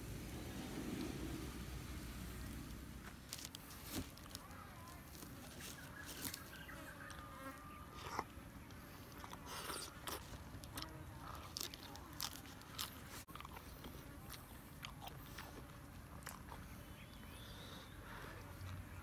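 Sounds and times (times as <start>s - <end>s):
crunchy chewing: 2.6s - 19.0s.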